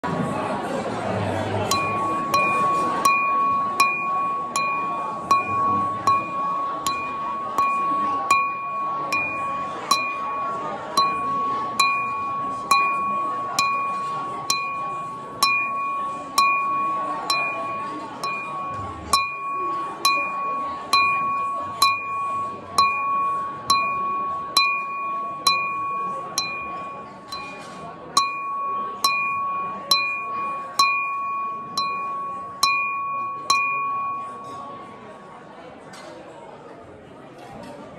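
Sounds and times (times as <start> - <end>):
glass struck ringing bell-like: 1.6 - 35.2.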